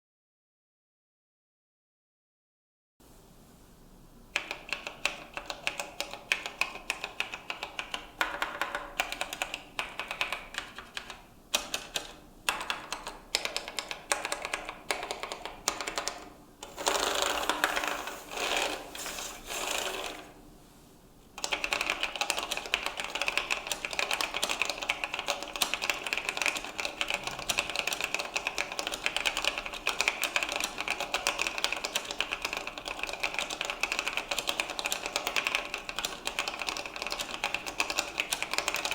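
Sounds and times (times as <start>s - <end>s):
keyboard typing clicks: 4.4s - 18.2s, 21.4s - 38.9s.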